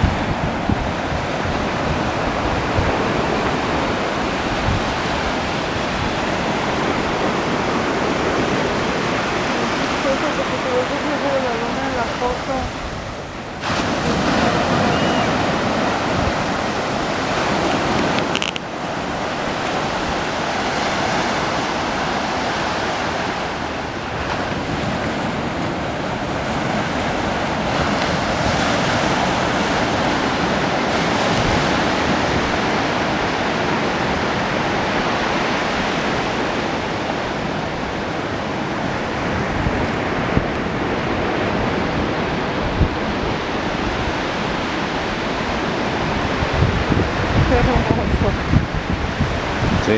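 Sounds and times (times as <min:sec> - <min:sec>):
ocean waves breaking on beach: 0:00.0 - 0:49.9.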